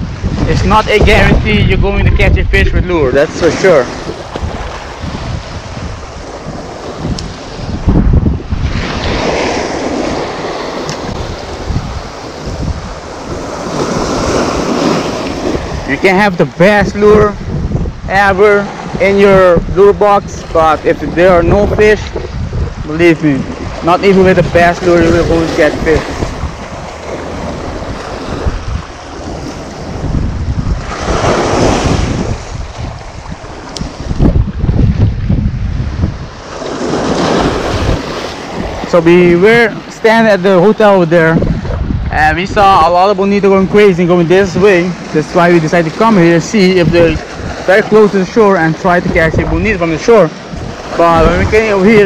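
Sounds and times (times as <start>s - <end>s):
waves washing over rocks: 0.0s - 52.0s
wind buffeting microphone: 0.0s - 52.0s.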